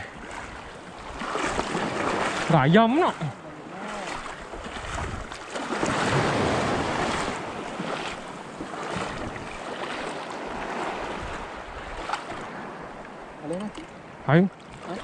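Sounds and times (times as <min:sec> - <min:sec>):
waves washing over pebbles: 0:00.0 - 0:12.7.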